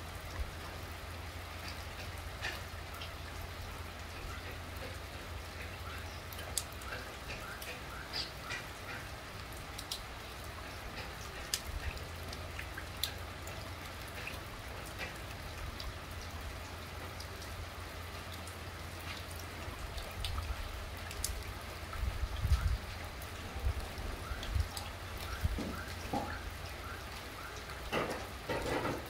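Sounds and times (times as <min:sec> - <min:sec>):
light rain falling: 0:00.0 - 0:29.0.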